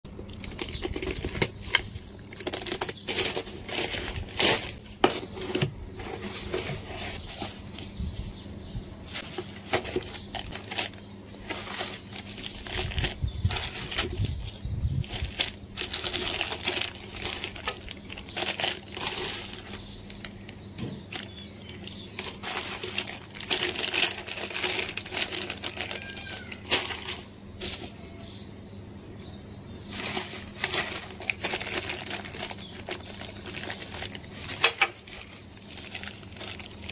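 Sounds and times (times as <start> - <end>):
plastic packaging crinkling: 0.1 - 7.9, 9.2 - 28.2, 29.9 - 36.9.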